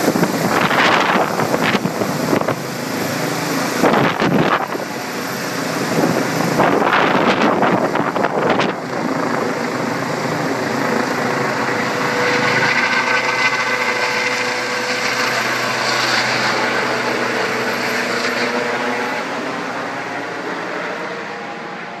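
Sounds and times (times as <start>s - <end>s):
helicopter rotor and turbine whine: 0.0s - 22.0s.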